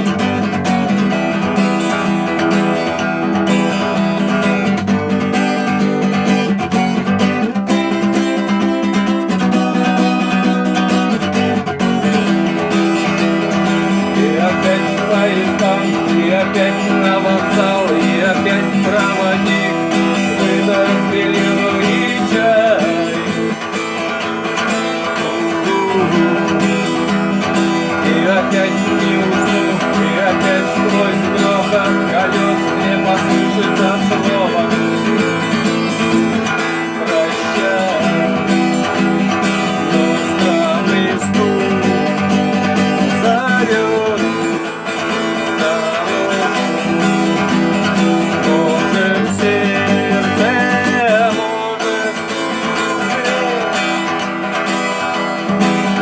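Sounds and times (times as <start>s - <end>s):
acoustic guitar instrumental: 0.0s - 56.0s.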